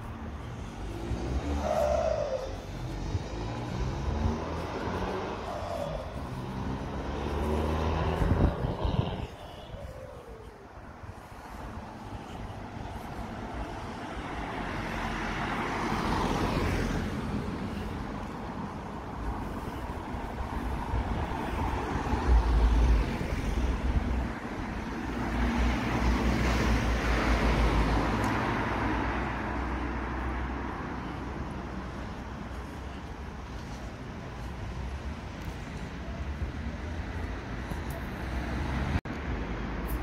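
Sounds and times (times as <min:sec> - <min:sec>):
cars driving past: 0:00.0 - 0:40.0.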